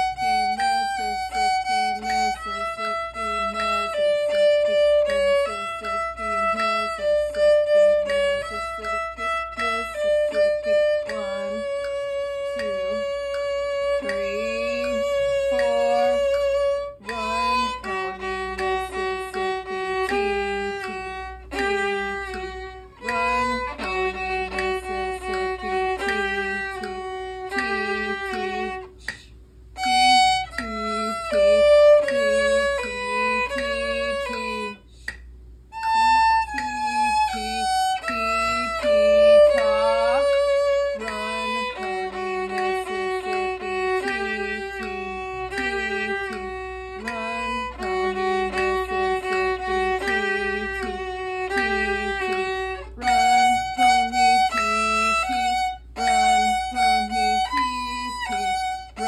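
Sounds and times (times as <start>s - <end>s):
solo violin melody: 0.0s - 59.0s.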